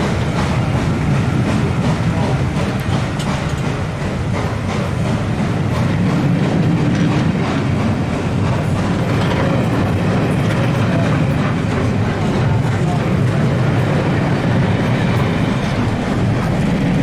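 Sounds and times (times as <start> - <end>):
passenger train rumbling past: 0.0 - 17.0
wheels clicking over rail joints: 0.0 - 17.0.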